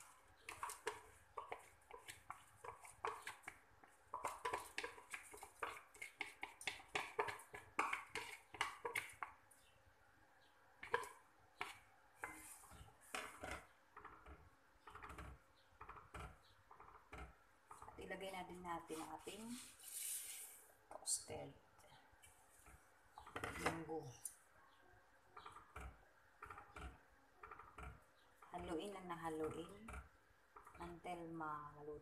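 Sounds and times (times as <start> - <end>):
wooden spoon stirring pot: 0.0 - 9.8, 10.5 - 24.6, 25.2 - 32.0.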